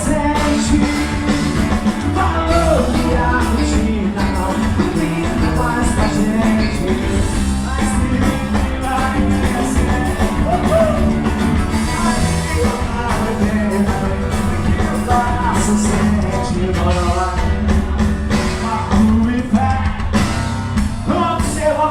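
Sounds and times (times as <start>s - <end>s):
live band playing party music: 0.0s - 21.9s
person singing: 0.0s - 21.9s.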